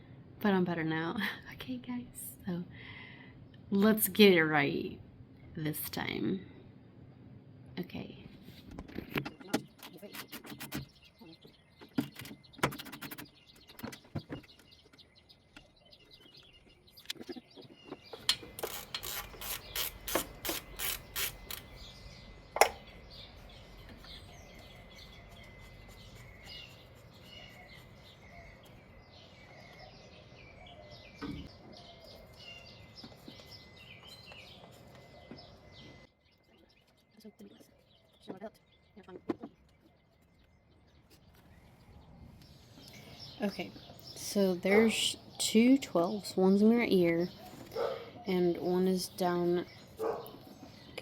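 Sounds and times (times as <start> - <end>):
small birds chirping: 7.8 - 51.0.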